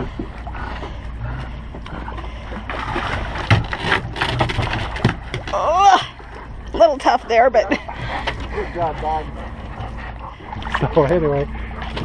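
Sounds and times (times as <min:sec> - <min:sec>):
dog paddling in water: 0:00.0 - 0:12.0
water splashing and sloshing: 0:00.0 - 0:12.0.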